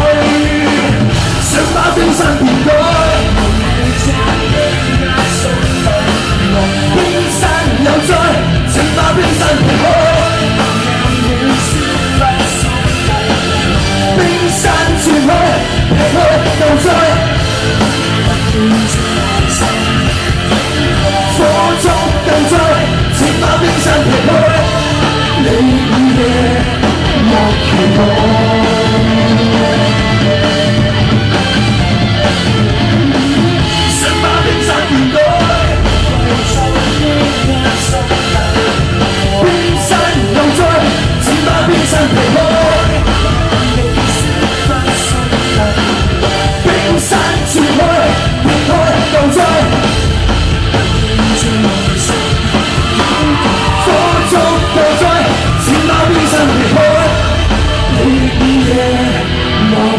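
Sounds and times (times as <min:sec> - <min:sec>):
live pop song over loudspeakers: 0:00.0 - 0:59.9.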